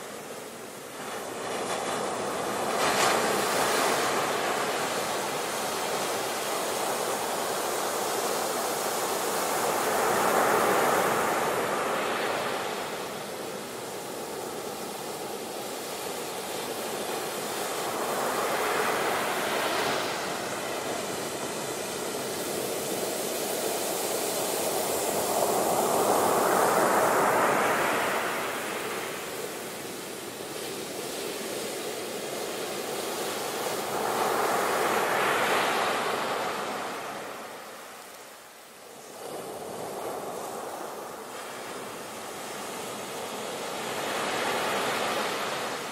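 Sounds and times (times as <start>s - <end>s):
ocean surf breaking on beach: 0.0s - 45.9s.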